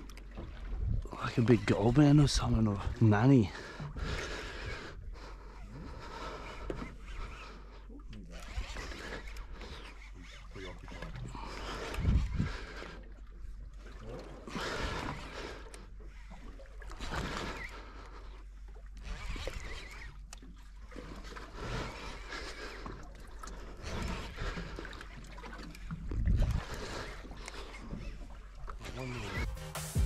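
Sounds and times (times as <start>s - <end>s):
water lapping against boat hull: 0.0s - 29.5s.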